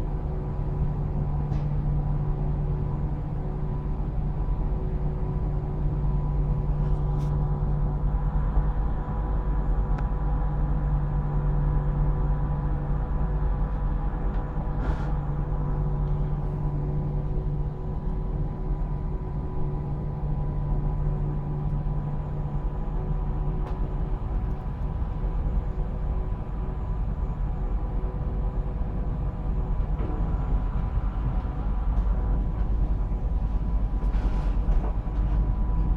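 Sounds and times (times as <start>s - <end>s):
electric train rumbling: 0.0s - 35.9s.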